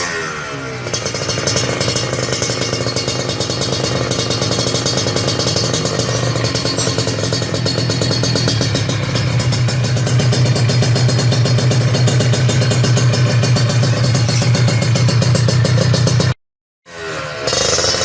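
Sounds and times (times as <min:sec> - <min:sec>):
motorcycle engine at raised revs: 0:00.0 - 0:18.0.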